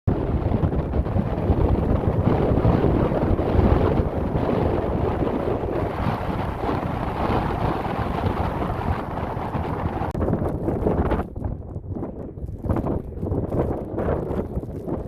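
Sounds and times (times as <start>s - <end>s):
blizzard wind buffeting microphone: 0.1s - 15.0s.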